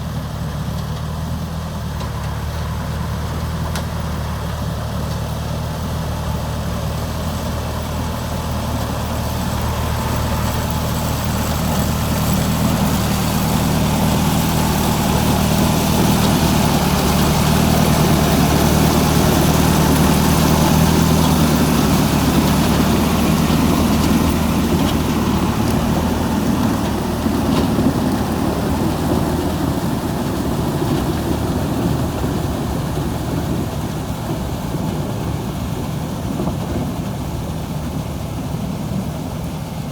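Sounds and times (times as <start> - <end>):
harvesting machine engine drone: 0.0 - 39.9.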